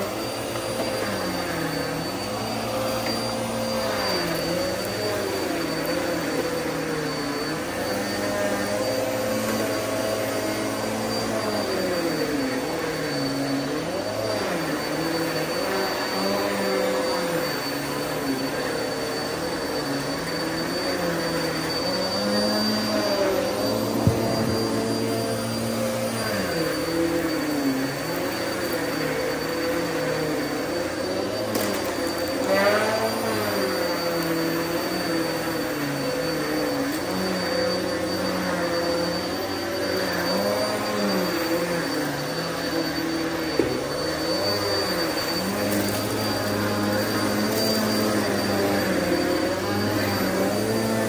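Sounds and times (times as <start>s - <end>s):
vacuum cleaner running over carpet: 0.0s - 51.0s.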